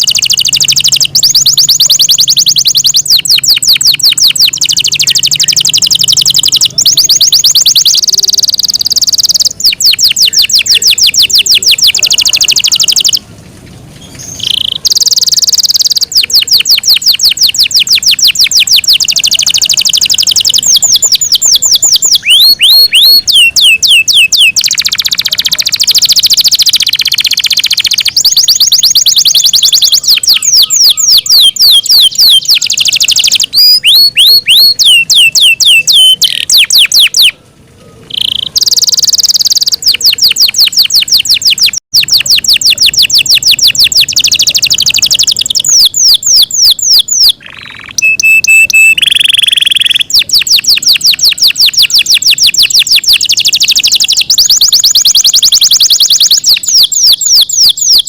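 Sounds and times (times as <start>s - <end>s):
canary singing fast trills: 0.0s - 58.0s.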